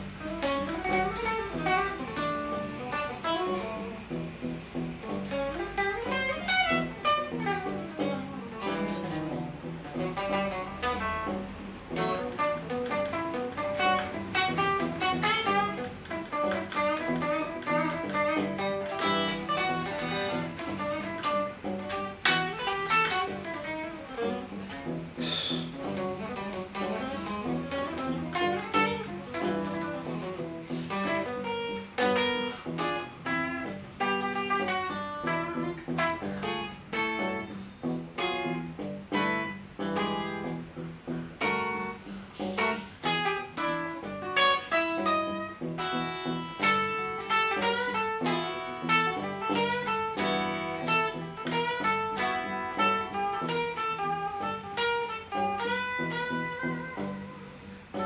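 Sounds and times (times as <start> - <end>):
electric guitar runs and chords: 0.0 - 58.0.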